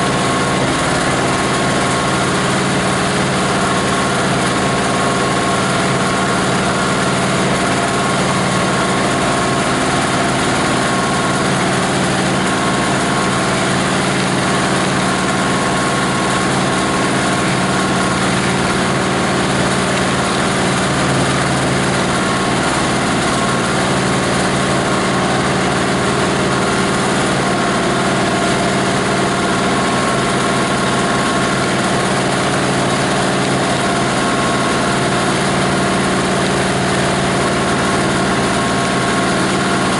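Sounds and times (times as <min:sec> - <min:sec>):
diesel engine driving grinder: 0:00.0 - 0:39.9.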